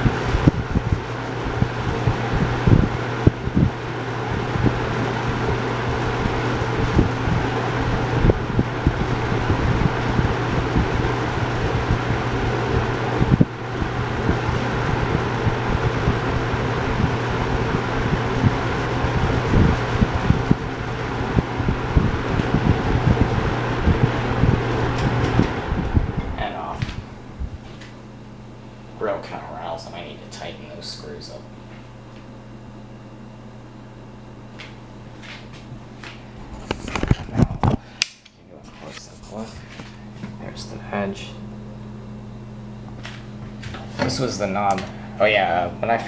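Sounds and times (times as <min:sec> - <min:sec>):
box fan humming with air rush: 0:00.0 - 0:46.0.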